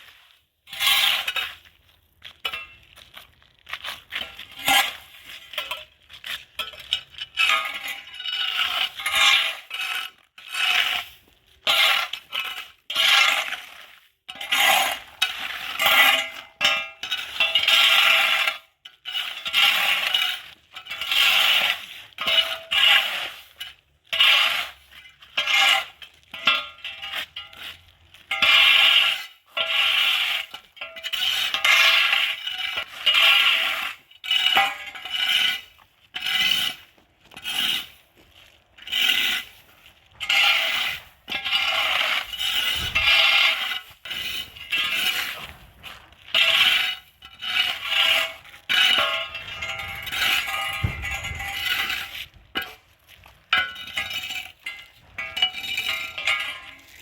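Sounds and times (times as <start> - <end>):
scraping strokes: 3.8 - 57.0.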